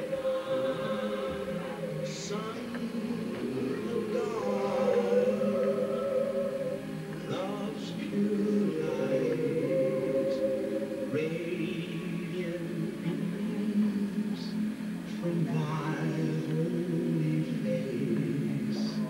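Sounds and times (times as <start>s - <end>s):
choir singing held notes: 0.0s - 19.0s.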